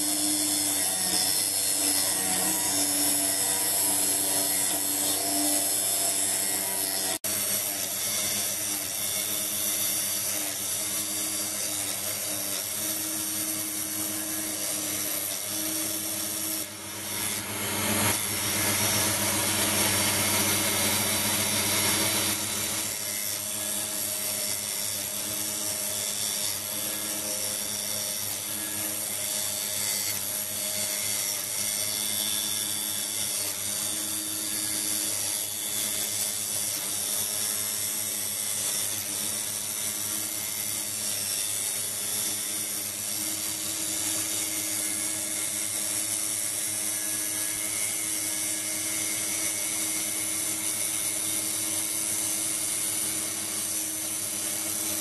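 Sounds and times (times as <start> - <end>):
grinder motor whine: 0.0 - 55.0
grinding wheel hissing on steel: 0.0 - 55.0.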